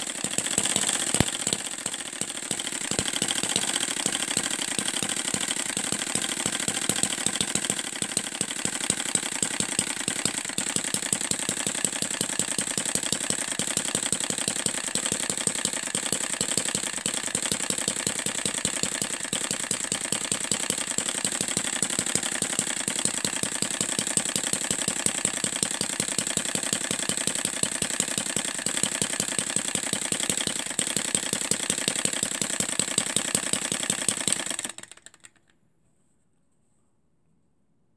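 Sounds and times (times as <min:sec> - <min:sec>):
model engine running fast: 0:00.0 - 0:35.4.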